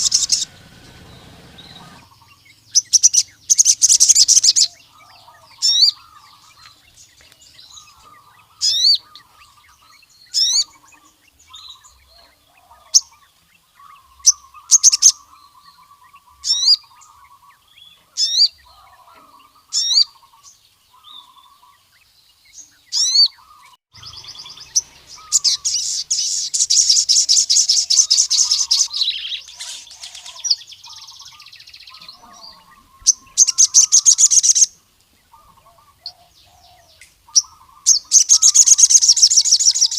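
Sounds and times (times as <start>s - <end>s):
lower bird twittering: 0.0s - 39.9s
sunbird singing: 0.0s - 39.9s.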